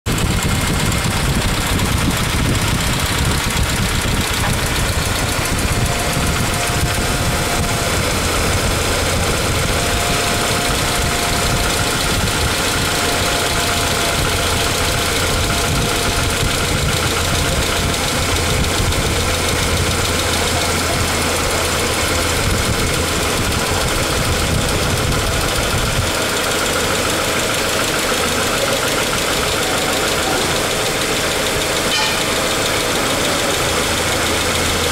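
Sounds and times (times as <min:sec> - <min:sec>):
engine running: 0:00.0 - 0:34.9
loud valvetrain ticking: 0:00.0 - 0:34.9.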